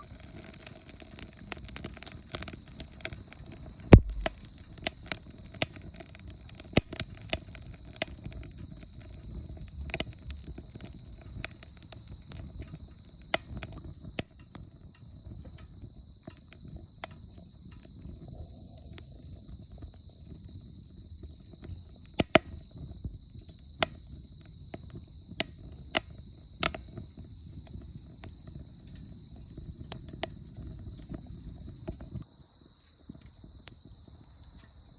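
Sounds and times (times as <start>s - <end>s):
insects chirring: 0.0s - 34.9s
wood fire crackling: 0.0s - 34.9s.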